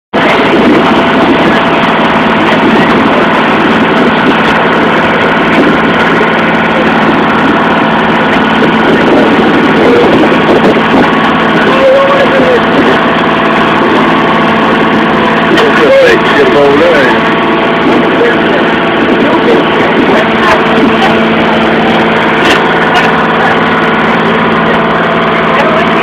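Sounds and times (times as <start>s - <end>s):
boat engine running: 0.1s - 26.0s.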